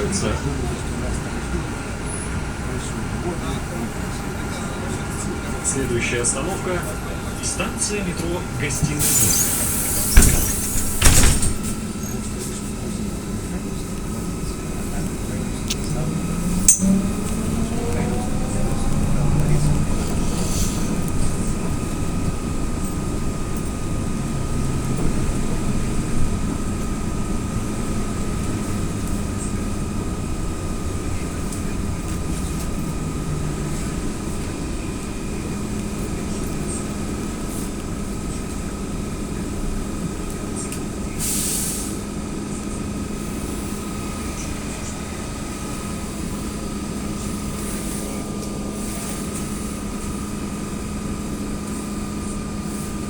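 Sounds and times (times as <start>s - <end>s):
trolleybus cabin drone: 0.0s - 53.0s.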